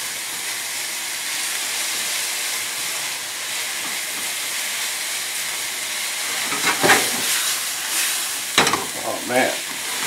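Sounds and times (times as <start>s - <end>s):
meat sizzling in a hot pan: 0.0s - 10.0s.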